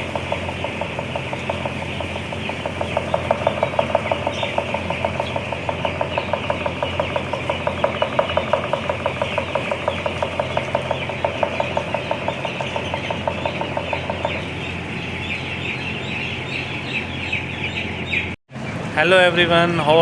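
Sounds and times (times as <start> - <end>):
rapid mechanical ticking: 0.0 - 16.6
chicks peeping: 0.0 - 19.5
low steady hum: 0.0 - 20.0.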